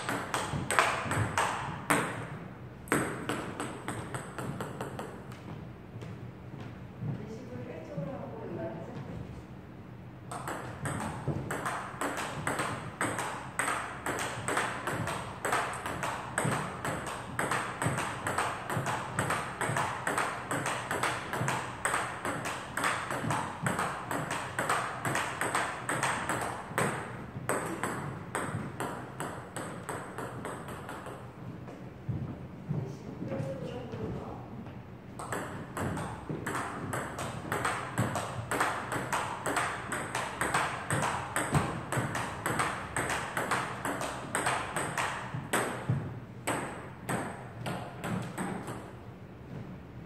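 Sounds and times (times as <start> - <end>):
table tennis ball hits: 0.0 - 5.5, 10.3 - 31.3, 35.2 - 49.0.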